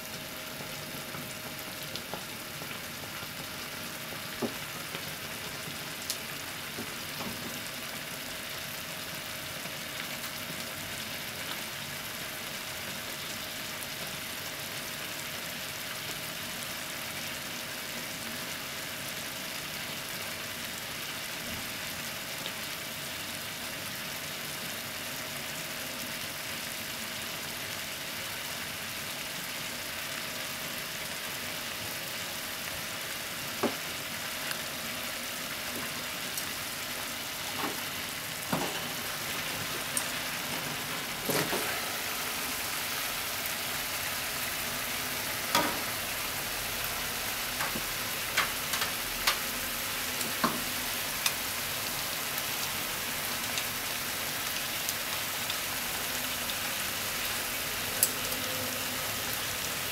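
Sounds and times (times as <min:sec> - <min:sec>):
frying pan sizzling and popping: 0:00.0 - 0:59.9.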